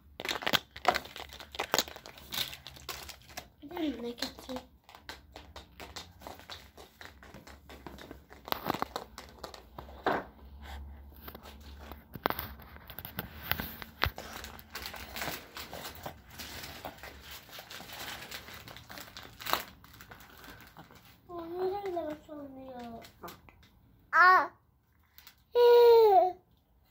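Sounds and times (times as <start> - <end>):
candy wrappers crinkling: 0.0 - 10.0, 11.2 - 23.8, 25.0 - 25.6.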